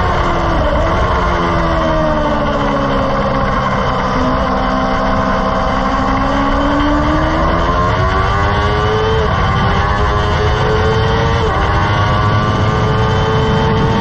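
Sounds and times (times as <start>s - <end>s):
car engine revving: 0.0s - 14.0s
wind and road noise: 0.0s - 14.0s.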